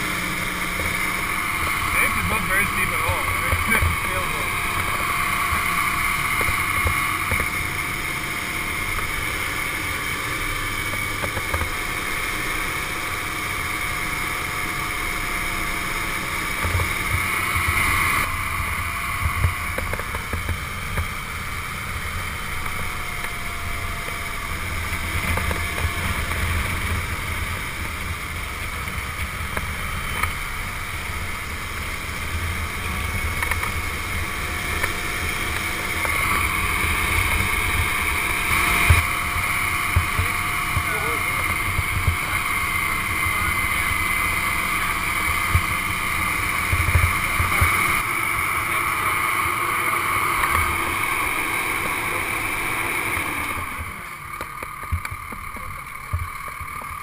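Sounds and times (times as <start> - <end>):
diesel engine running: 0.0 - 57.0
thin whine: 0.0 - 57.0.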